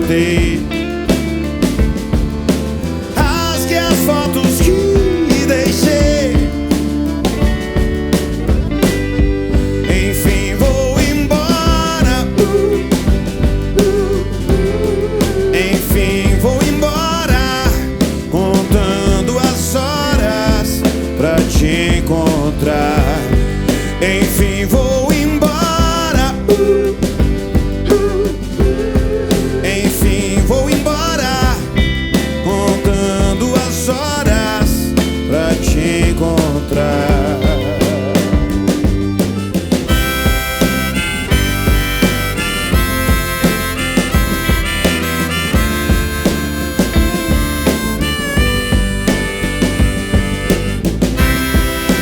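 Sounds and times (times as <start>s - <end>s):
drum beat: 0.0s - 52.0s
guitars: 0.0s - 52.0s
melodic lead line: 0.0s - 52.0s.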